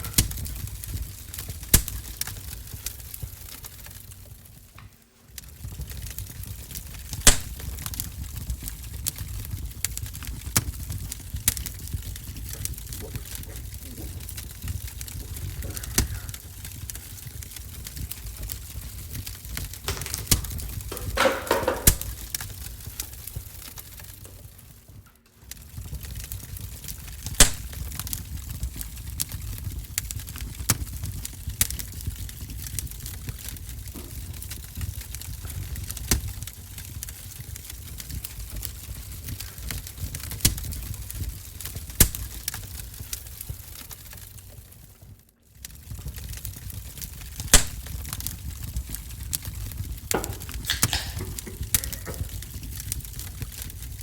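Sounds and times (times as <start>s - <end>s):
low rumble of stove: 0.0s - 54.0s
sharp pops of fire: 0.0s - 54.0s
wood fire crackling: 0.0s - 54.0s.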